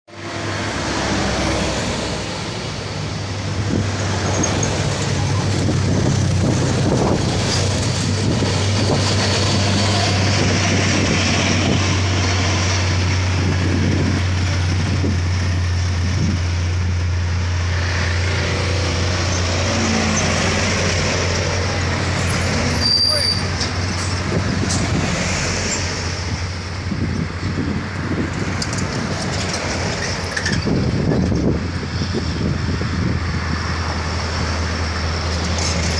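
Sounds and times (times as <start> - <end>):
diesel truck engine pulling hard: 0.1 - 35.9.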